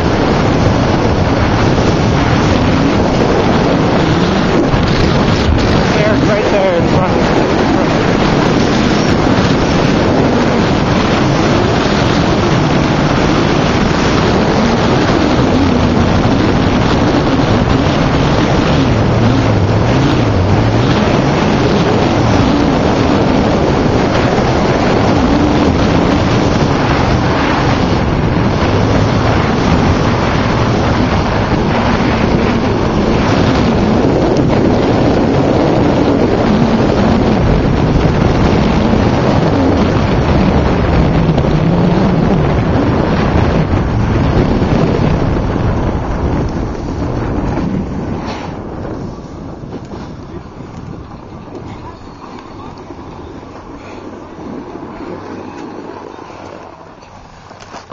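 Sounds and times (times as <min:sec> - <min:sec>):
low rumble: 0:00.0 - 0:57.9
wind buffeting microphone: 0:00.0 - 0:57.9.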